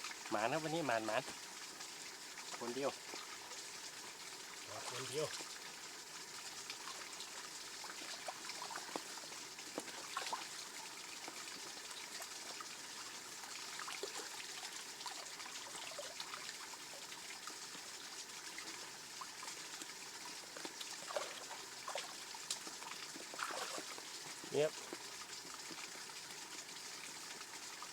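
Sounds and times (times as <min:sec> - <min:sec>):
small waterfall trickling: 0:00.0 - 0:27.9
water splashes and drips: 0:00.0 - 0:27.9.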